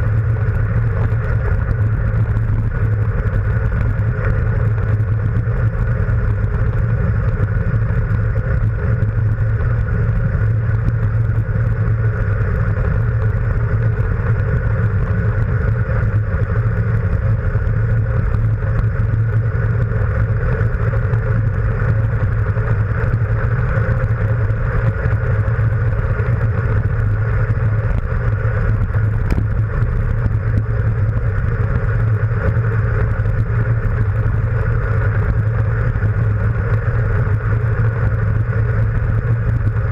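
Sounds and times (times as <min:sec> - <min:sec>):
bike road rumble: 0:00.0 - 0:39.9
wind buffeting microphone: 0:00.0 - 0:39.9.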